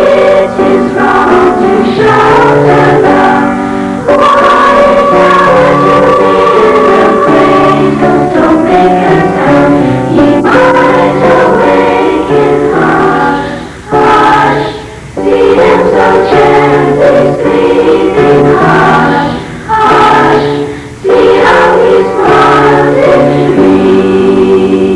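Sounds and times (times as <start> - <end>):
choir singing: 0.0 - 24.9.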